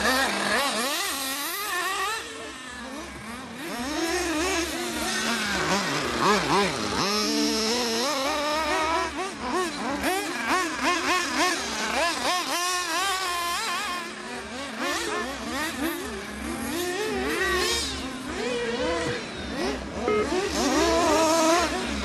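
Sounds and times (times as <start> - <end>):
high-pitched engine whines: 0.0 - 22.0.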